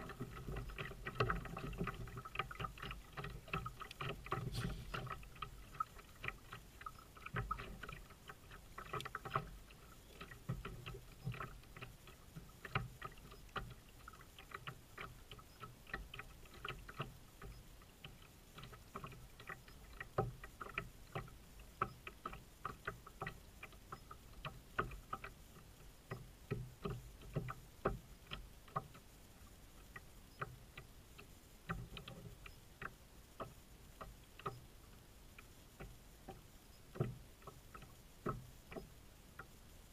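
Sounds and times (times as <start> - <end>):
light clicks and knocks: 0.0 - 29.1, 29.8 - 39.6
faint low rumble: 0.0 - 39.9.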